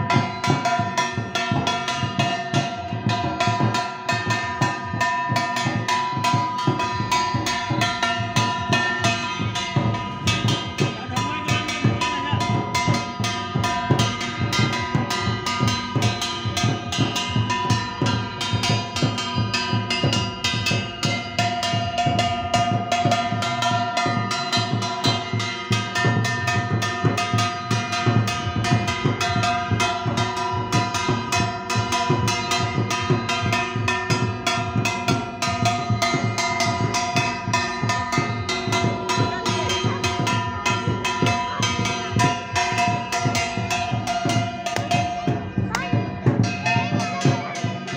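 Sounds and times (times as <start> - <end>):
clanging metal percussion: 0.0 - 47.9
rapid drumming: 0.0 - 47.9.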